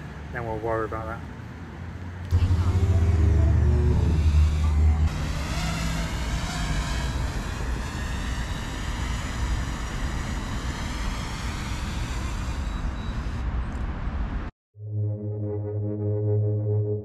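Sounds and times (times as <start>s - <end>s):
road traffic noise: 0.0s - 14.5s.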